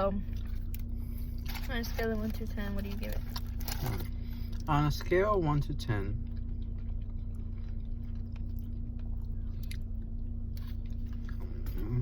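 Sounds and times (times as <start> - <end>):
low hum: 0.0 - 12.0
person chewing crispy food: 0.2 - 12.0.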